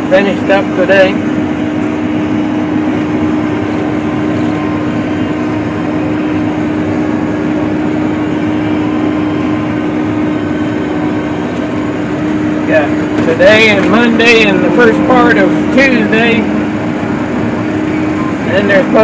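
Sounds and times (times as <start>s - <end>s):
machinery engine drone: 0.0s - 19.0s.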